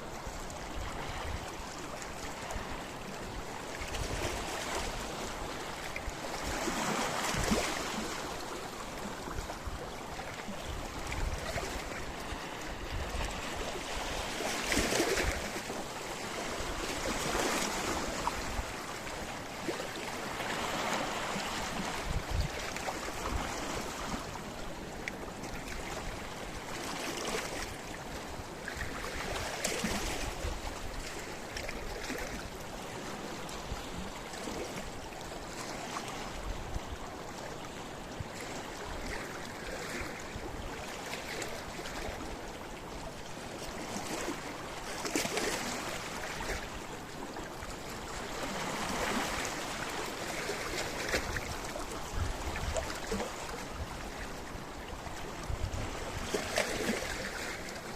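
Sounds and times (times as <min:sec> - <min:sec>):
sea waves on rocky shore: 0:00.0 - 0:57.9.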